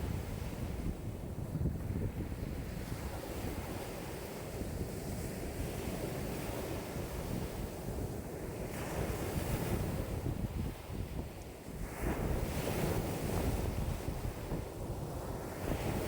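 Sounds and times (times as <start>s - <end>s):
waves on a lake: 0.0s - 16.0s
wind buffeting microphone: 0.0s - 16.0s.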